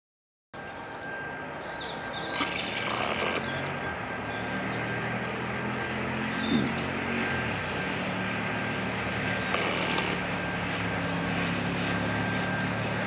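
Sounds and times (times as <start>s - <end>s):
distant jet engine whine: 0.6s - 13.0s.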